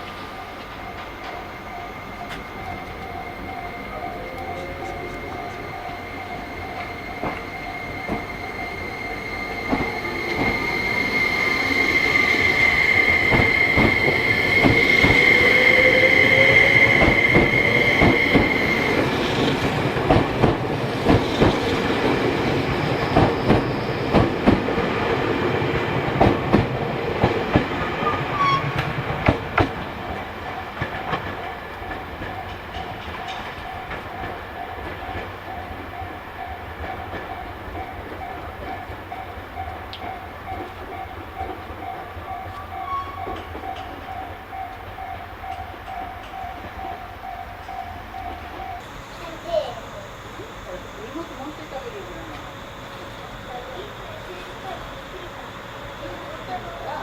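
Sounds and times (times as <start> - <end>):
train wheels clacking over rail joints: 0.0 - 49.8
train whine: 0.0 - 57.0.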